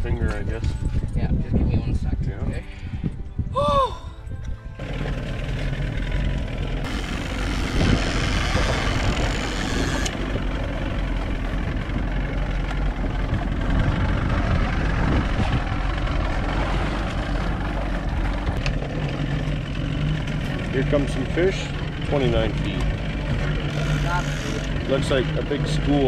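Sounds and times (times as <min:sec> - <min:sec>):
wind: 0:00.0 - 0:26.0
outboard motor running: 0:04.6 - 0:26.0
water noise: 0:04.8 - 0:26.0.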